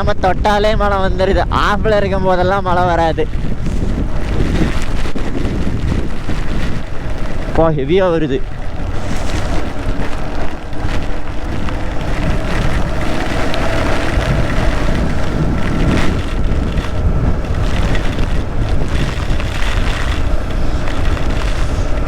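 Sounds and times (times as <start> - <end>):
wind rushing over microphone: 0.0 - 22.0
motorcycle engine tone: 2.6 - 22.0.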